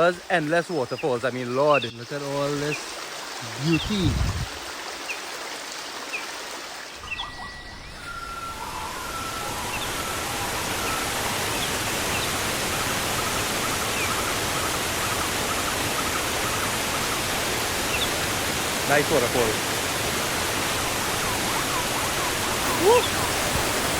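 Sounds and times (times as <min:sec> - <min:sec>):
waterfall rushing: 0:00.0 - 0:05.0, 0:07.0 - 0:23.9
birds chirping: 0:00.0 - 0:05.3, 0:06.9 - 0:23.9.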